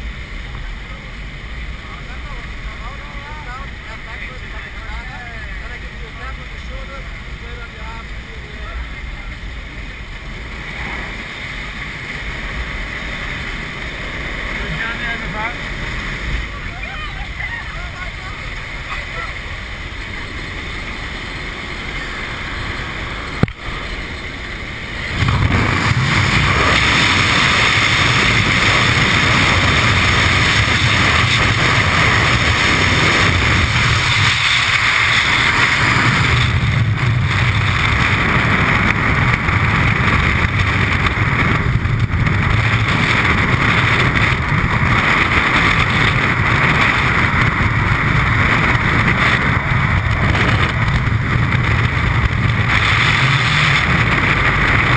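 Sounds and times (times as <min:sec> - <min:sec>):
aircraft engine and slipstream: 0:00.0 - 0:54.9
freefall wind on microphone: 0:00.0 - 0:54.9.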